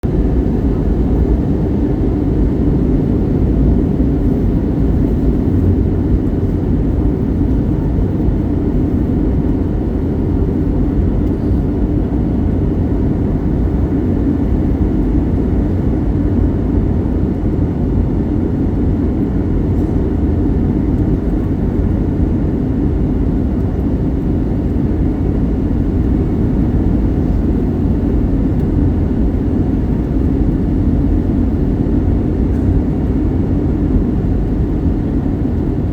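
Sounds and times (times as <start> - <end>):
jet airliner cabin noise: 0.0 - 35.9.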